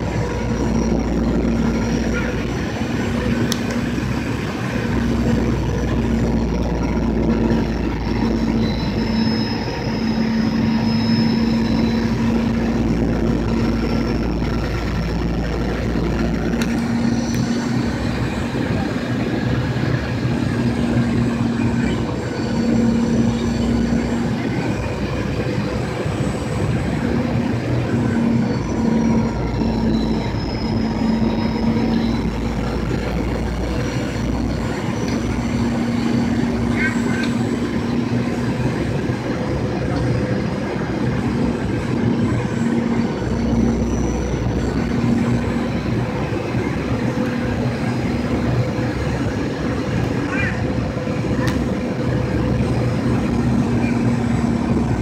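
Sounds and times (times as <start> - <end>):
airliner cabin air rush: 0.0 - 55.0
faint high whine: 0.0 - 55.0
low hum: 0.0 - 55.0.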